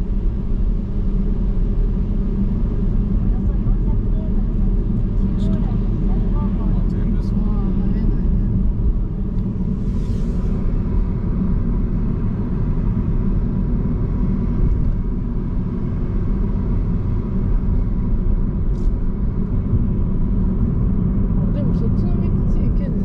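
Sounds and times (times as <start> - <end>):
car cabin road and engine rumble: 0.0 - 23.0.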